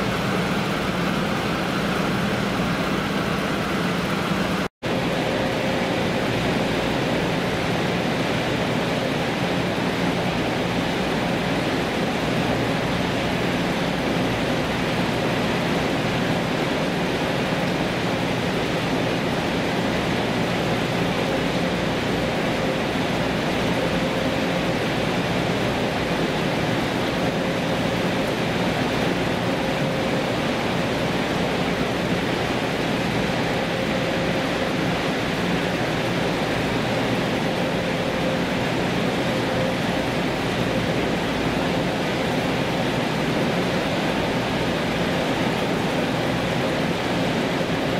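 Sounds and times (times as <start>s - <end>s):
drone of machinery: 0.0s - 47.9s
ship engine and propeller wash: 0.0s - 47.9s.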